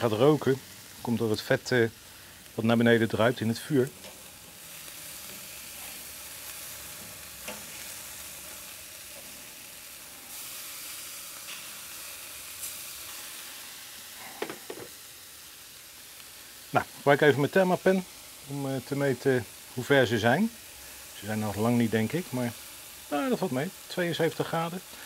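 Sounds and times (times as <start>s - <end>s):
fire crackles: 0.0s - 25.0s
meat sizzling on a grill: 0.0s - 25.0s.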